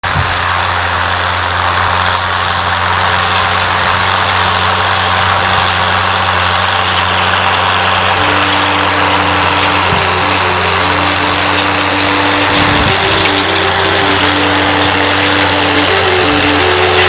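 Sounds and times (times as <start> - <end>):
tractor diesel engine humming: 0.0 - 17.0.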